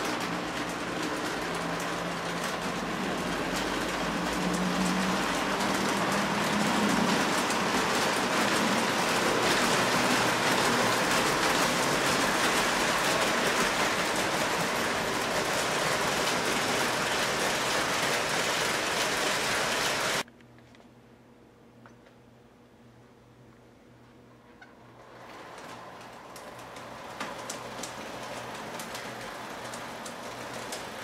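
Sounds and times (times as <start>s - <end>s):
model train wheels clattering on rails: 0.0s - 20.2s, 25.0s - 31.0s.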